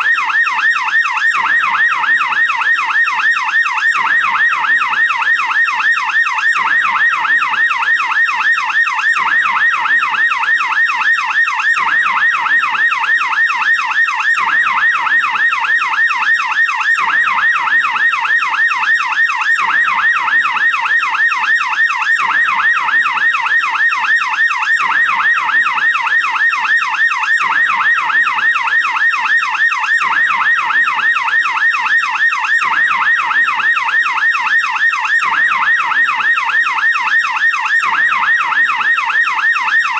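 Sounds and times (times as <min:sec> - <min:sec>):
police siren yelp: 0:00.0 - 0:39.9.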